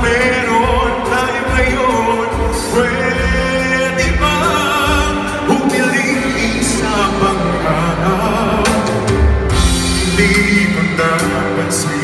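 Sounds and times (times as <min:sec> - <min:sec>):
man singing with vibrato: 0:00.0 - 0:12.0
pop ballad backing track: 0:00.0 - 0:12.0.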